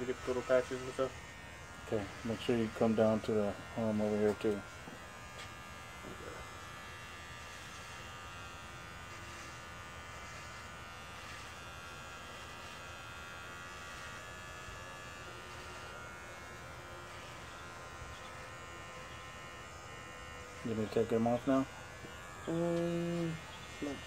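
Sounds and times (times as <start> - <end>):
electric hair clippers buzzing: 0.0 - 24.0.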